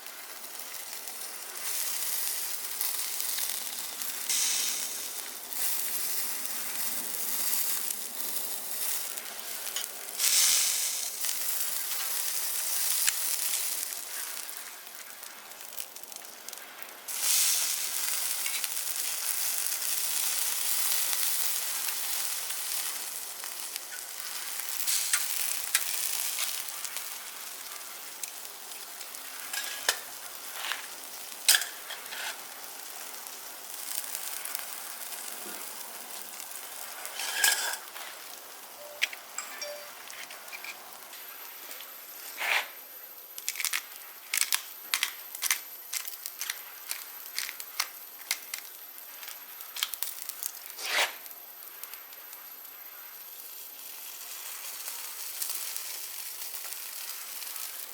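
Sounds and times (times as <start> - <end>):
meat sizzling on a grill: 0.0 - 57.9.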